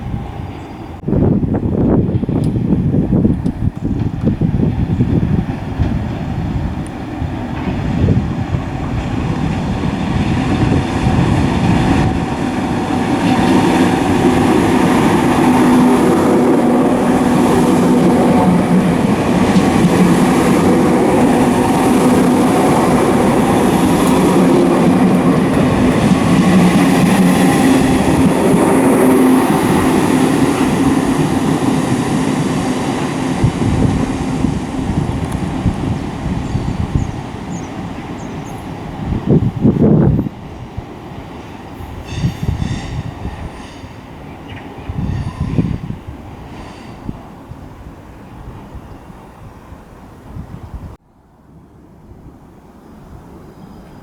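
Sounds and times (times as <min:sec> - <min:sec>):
electric train humming: 0:00.0 - 0:50.8
wind buffeting microphone: 0:00.0 - 0:51.0.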